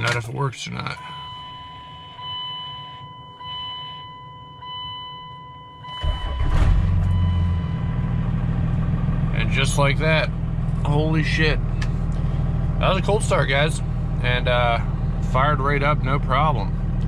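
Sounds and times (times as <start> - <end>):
diesel engine cranking and idling: 0.0 - 17.0.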